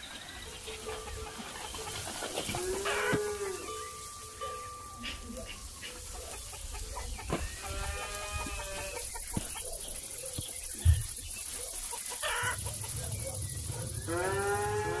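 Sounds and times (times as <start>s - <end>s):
chicken calling: 0.0s - 15.0s.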